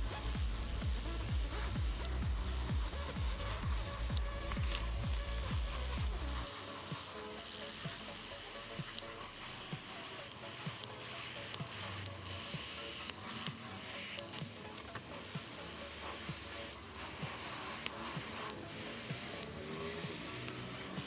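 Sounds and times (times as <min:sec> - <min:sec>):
spray paint hissing: 0:00.0 - 0:21.0.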